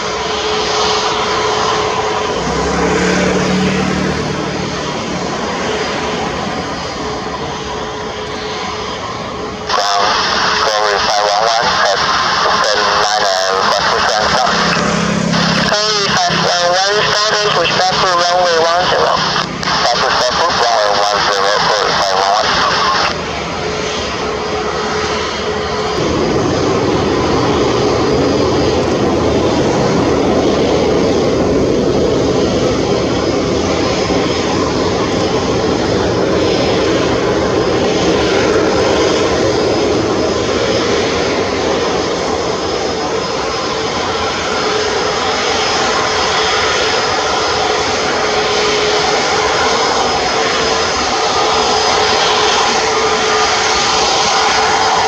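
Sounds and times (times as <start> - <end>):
jet engines taxiing drone: 0.0 - 55.0.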